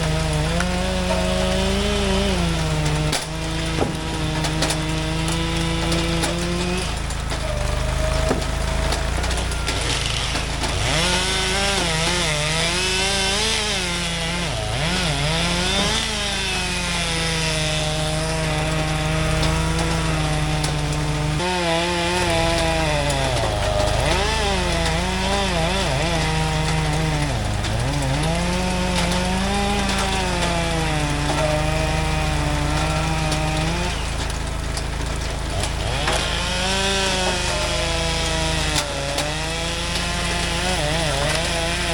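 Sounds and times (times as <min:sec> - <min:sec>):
chainsaw cutting logs: 0:00.0 - 0:41.9.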